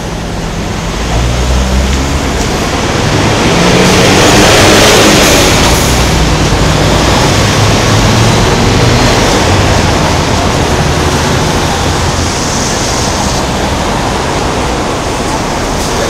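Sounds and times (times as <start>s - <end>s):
heavy road traffic roar: 0.0s - 16.0s
vehicles passing close by: 0.0s - 16.0s.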